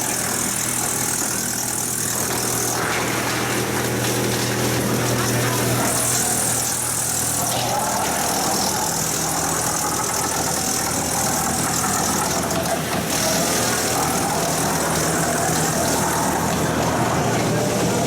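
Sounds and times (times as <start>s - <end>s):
wood chipper running: 0.0s - 18.0s.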